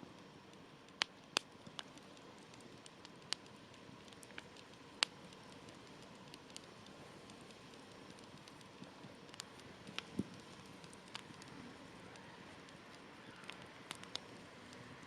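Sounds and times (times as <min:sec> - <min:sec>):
campfire hissing: 0:00.0 - 0:15.0
campfire popping snaps: 0:00.1 - 0:15.0.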